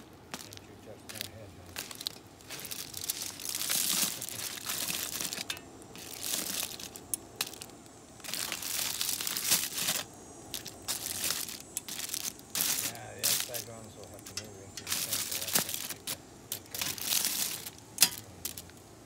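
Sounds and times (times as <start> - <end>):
aluminium foil crinkling: 0.0 - 18.8.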